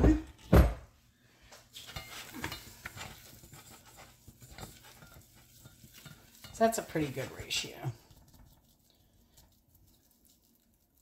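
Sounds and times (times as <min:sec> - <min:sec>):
whisk scraping saucepan: 0:01.7 - 0:11.0.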